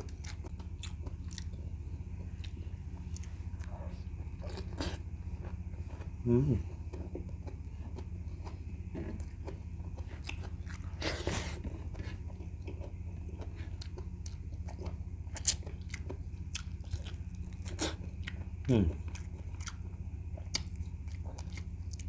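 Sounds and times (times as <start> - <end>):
person chewing and biting: 0.0 - 6.2, 6.8 - 22.0
steady low hum: 0.0 - 22.0.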